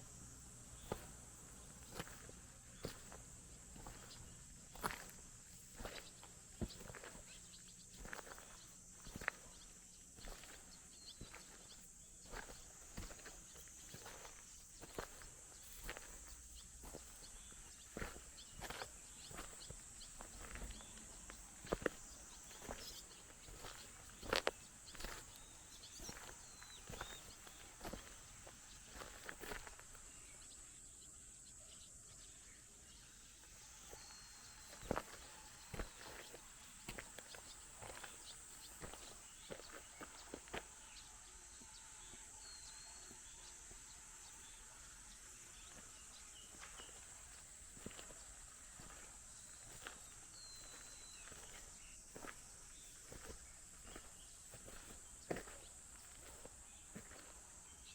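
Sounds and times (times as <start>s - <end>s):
footsteps crunching: 0.0s - 30.5s, 33.3s - 57.9s
faint bird chirps: 0.0s - 57.9s
high insect drone: 0.0s - 57.9s.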